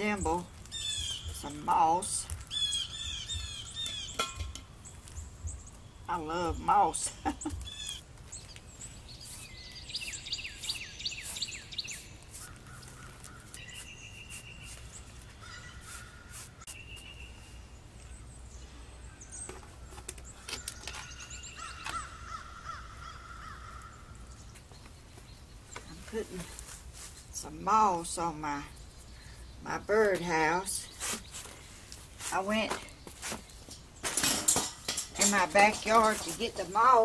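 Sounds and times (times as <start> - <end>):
wild birds calling and singing: 0.0 - 37.0.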